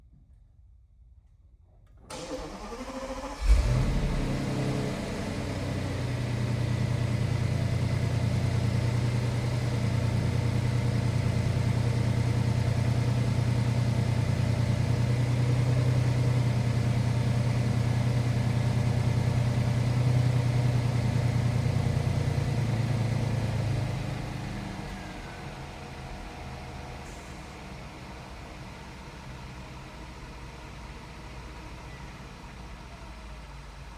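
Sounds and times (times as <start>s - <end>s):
car engine idling: 2.1s - 33.9s.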